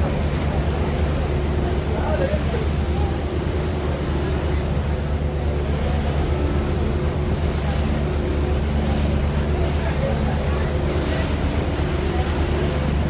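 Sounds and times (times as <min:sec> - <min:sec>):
boat engine droning: 0:00.0 - 0:13.0
water rushing against hull: 0:00.0 - 0:13.0.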